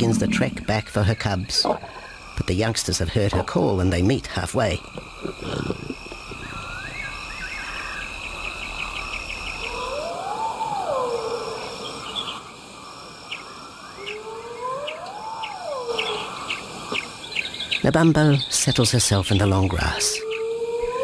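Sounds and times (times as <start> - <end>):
insects chirring: 0.0 - 21.0
pulsed insect calls: 0.0 - 21.0.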